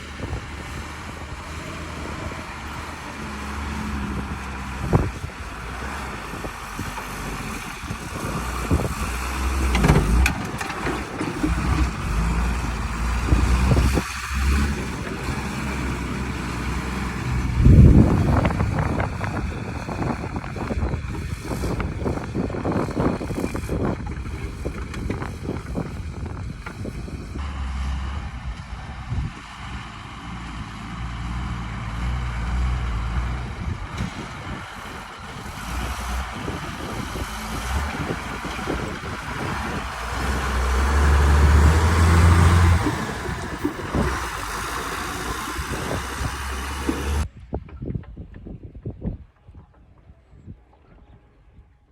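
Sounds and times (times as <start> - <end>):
truck diesel engine rumbling: 0.0 - 47.3
truck knocks and rattles: 0.0 - 51.3
wind buffeting microphone: 0.0 - 51.9.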